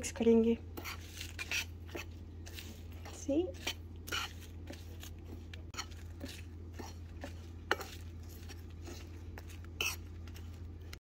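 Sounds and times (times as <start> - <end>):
steady low hum: 0.0 - 11.0
metal spoon scraping a pan: 0.7 - 11.0.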